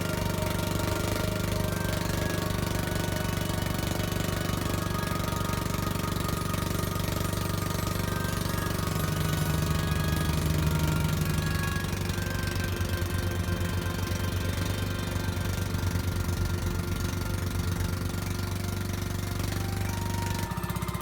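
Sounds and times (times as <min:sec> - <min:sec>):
boat engine knocking: 0:00.0 - 0:21.0.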